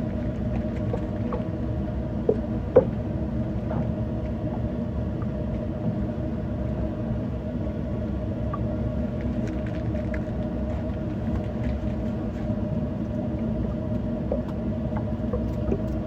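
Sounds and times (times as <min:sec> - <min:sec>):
motorboat engine drone: 0:00.0 - 0:16.0.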